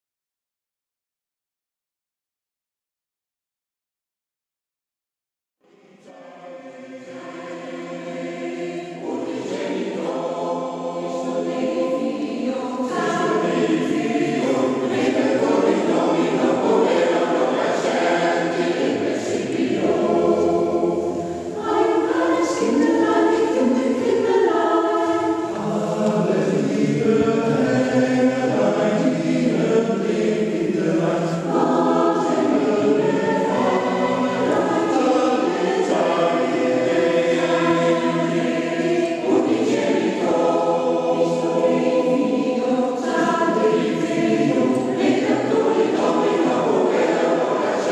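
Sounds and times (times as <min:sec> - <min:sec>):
choir singing: 0:05.6 - 0:47.9.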